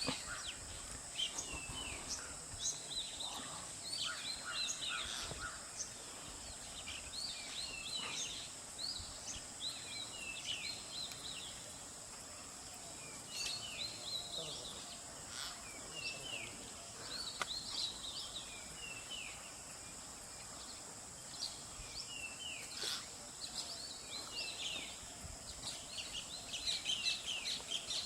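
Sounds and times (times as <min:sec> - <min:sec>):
steady high-pitched hiss: 0:00.0 - 0:28.0
wild birds chirping and whistling: 0:00.0 - 0:28.0.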